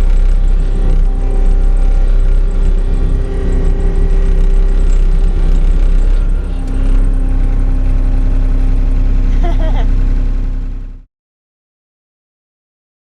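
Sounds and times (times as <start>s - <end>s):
diesel engine of earthmoving machine: 0.0s - 11.1s.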